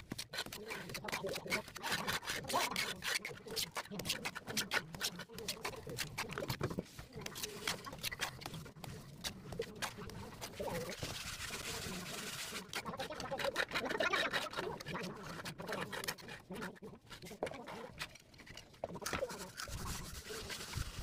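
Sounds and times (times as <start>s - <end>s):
trowel scraping and slapping mortar: 0.0s - 21.0s.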